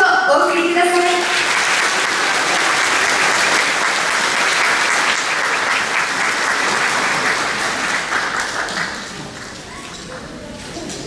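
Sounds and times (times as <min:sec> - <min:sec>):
audience applauding: 0:00.7 - 0:11.0.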